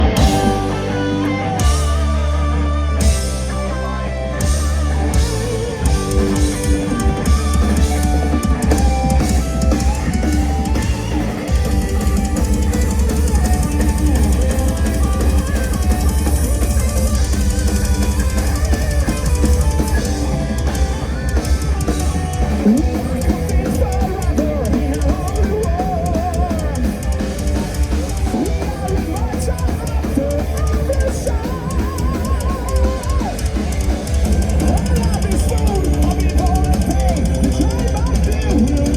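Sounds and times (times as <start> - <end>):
fast bass drum run: 0.0 - 3.8, 4.4 - 38.9
heavy metal band playing: 0.0 - 38.9.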